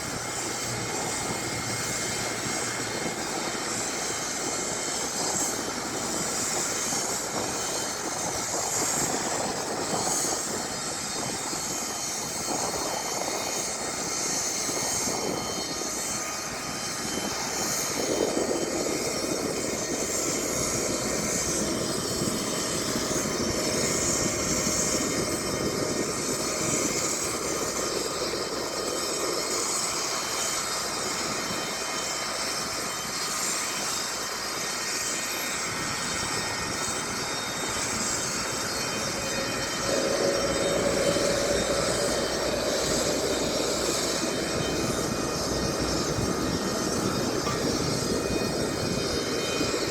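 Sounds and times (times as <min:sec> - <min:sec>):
aircraft engine running: 0:00.0 - 0:49.9.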